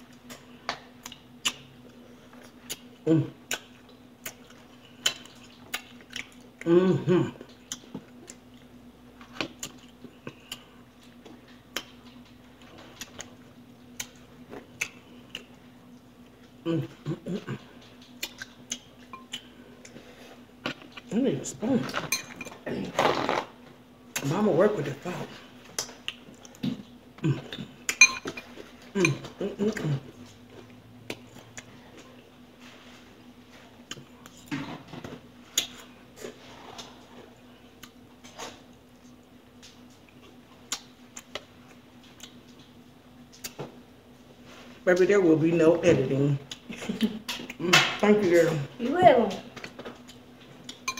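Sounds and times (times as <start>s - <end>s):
faint hum: 0.0s - 50.9s.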